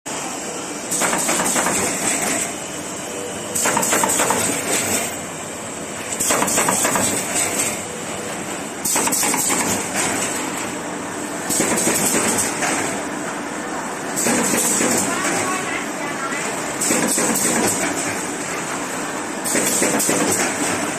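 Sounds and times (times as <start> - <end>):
machine running noise: 0.1 - 20.9
machine clattering with a hiss: 0.9 - 2.7, 3.5 - 5.3, 6.0 - 13.4, 14.0 - 20.9.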